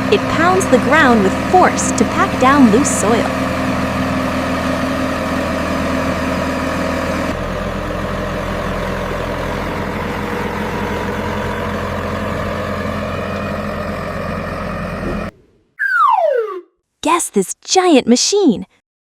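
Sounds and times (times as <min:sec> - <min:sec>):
heavy vehicle engine idling: 0:00.0 - 0:15.4.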